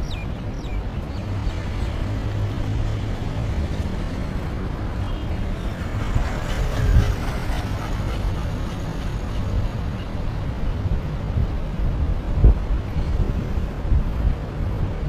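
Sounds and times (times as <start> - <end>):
low rumble of traffic: 0.0 - 15.0
wind on microphone: 0.0 - 15.0.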